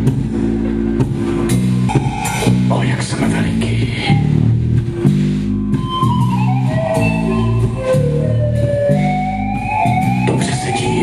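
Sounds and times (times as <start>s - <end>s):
drums: 0.0s - 11.0s
electric bass riff: 0.0s - 11.0s.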